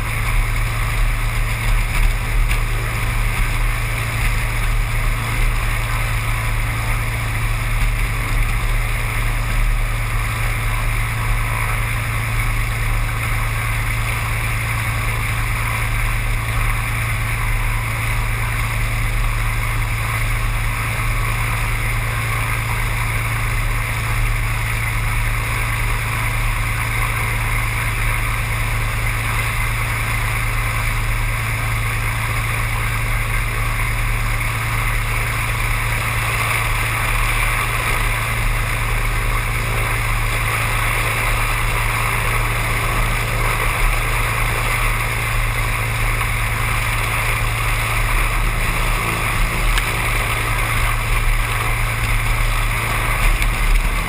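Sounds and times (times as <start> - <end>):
propeller engine droning: 0.0 - 54.0.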